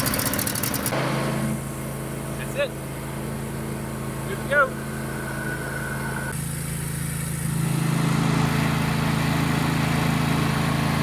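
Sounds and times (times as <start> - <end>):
lawn tractor engine running: 0.0 - 5.2, 6.3 - 11.0.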